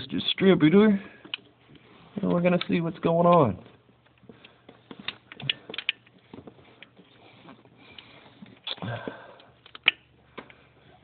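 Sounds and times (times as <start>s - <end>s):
hands handling objects clicking: 1.1s - 10.6s.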